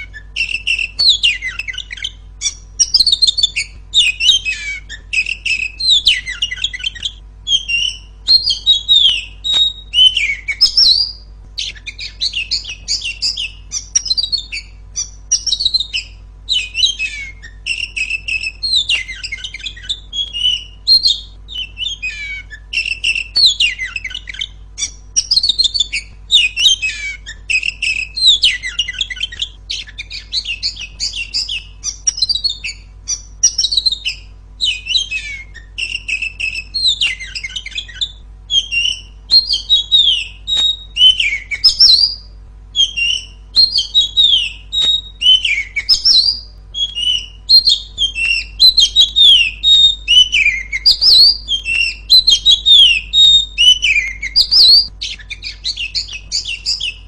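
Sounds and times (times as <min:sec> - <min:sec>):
bird singing whistles and chirps: 0:00.0 - 0:57.0.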